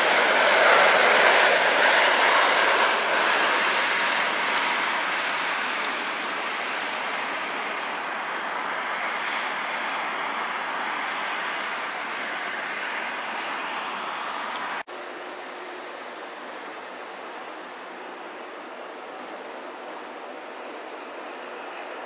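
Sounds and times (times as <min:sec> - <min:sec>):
jet engines rushing with whine: 0:00.0 - 0:22.0
taxiing jet engine noise: 0:00.0 - 0:22.0.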